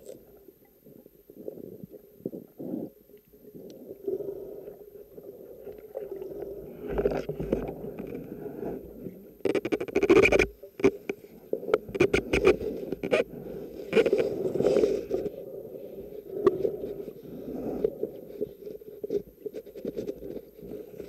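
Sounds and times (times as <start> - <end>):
muffled underwater rumble: 0.0 - 21.0.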